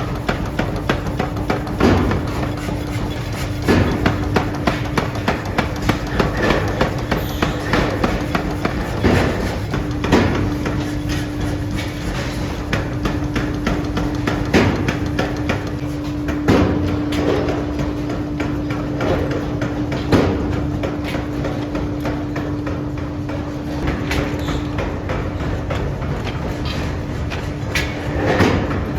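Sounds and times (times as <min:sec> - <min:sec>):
heavy forging blows: 0:00.0 - 0:28.9.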